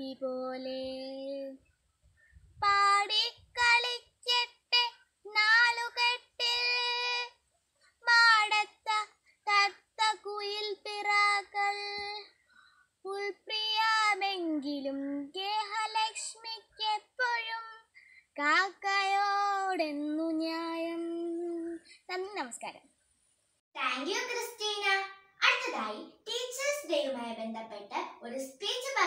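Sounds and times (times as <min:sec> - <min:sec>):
girl singing unaccompanied: 0:00.0 - 0:01.6, 0:02.4 - 0:07.4, 0:08.0 - 0:12.4, 0:13.0 - 0:22.4, 0:23.8 - 0:29.0.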